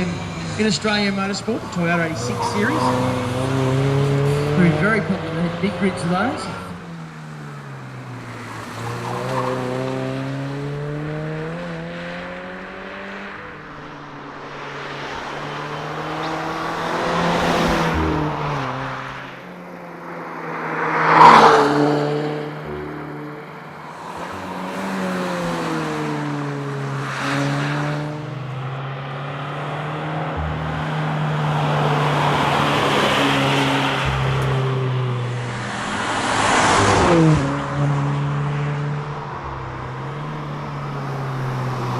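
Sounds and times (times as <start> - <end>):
car engine accelerating: 0.0 - 41.9
tyre and road noise: 0.0 - 41.9.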